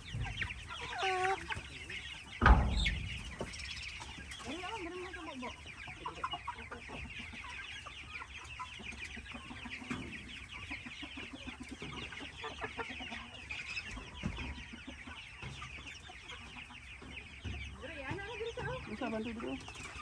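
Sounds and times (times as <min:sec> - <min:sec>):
chickens clucking and cheeping: 0:00.0 - 0:20.0.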